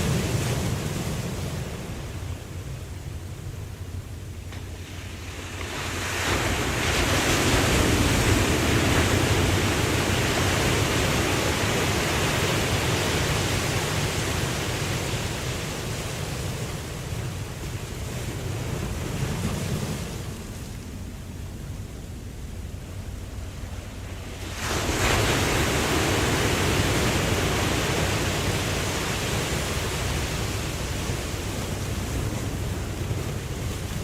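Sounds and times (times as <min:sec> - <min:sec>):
ocean surf rumble: 0:00.0 - 0:34.0
wave washing: 0:00.0 - 0:34.0.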